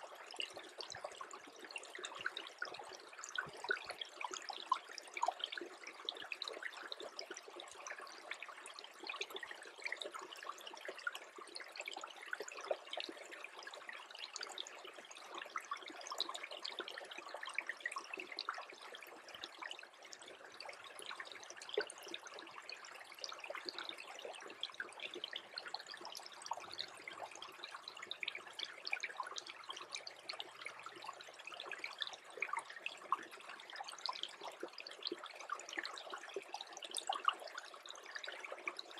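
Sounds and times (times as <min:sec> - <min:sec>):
stream trickling and gurgling: 0:00.0 - 0:38.9.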